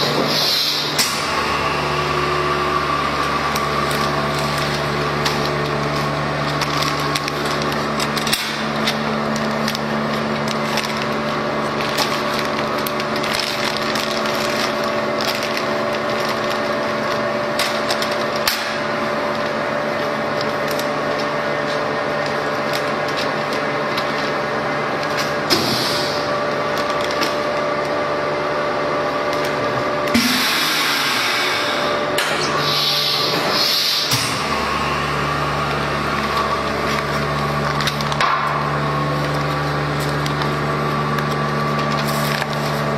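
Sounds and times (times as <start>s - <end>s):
vacuum packaging machine humming: 0.0s - 42.9s.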